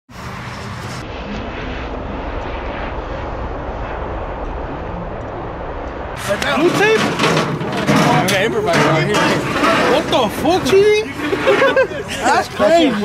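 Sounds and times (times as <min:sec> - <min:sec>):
engine-like rumble: 0:00.2 - 0:13.0.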